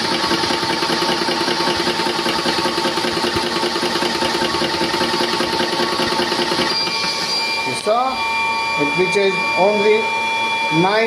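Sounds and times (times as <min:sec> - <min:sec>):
electric compressor running: 0:00.0 - 0:11.0.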